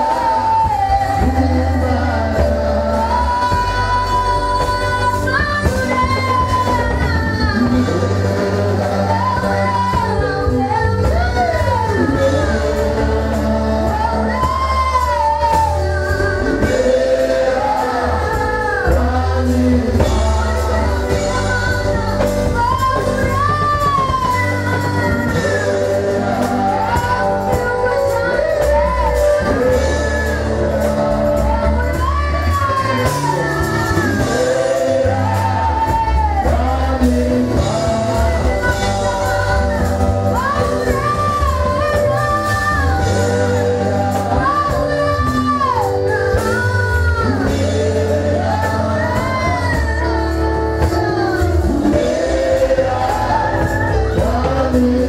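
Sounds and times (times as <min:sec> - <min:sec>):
instrumental backing with bass: 0:00.0 - 0:55.0
worship song singing: 0:00.0 - 0:55.0.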